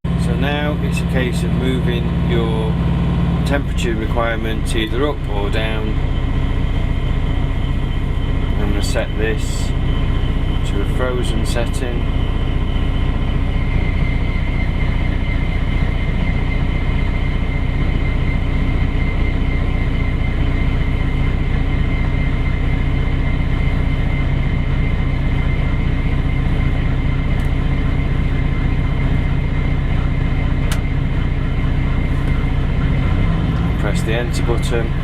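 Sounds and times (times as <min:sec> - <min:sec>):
truck refrigeration unit droning: 0:00.0 - 0:35.0.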